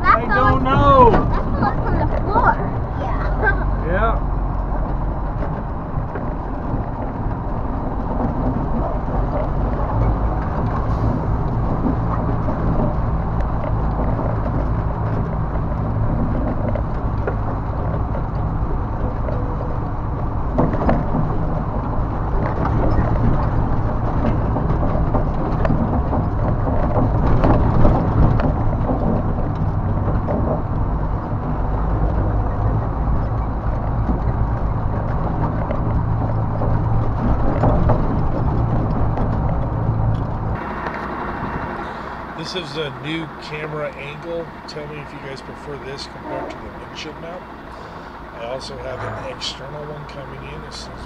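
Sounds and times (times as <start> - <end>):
truck diesel engine under load: 0.0 - 51.0
truck knocking over bumps: 0.0 - 51.0.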